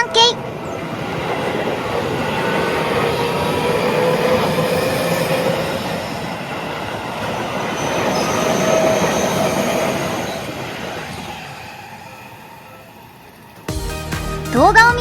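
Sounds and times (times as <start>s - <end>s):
train wheels rushing on rail: 0.0s - 13.8s.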